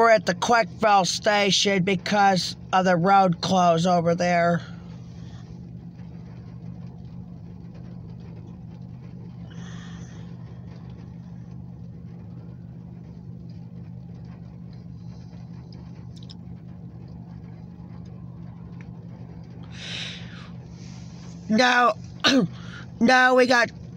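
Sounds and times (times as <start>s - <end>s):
car engine idling: 0.0s - 23.9s
rain on windshield: 0.0s - 23.9s.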